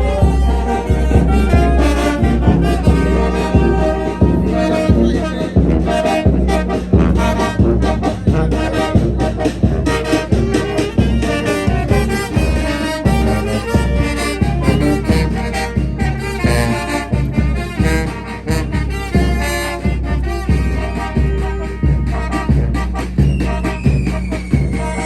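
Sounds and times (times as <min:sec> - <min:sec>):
brass band playing: 0:00.0 - 0:25.0
drum beat: 0:00.0 - 0:25.0.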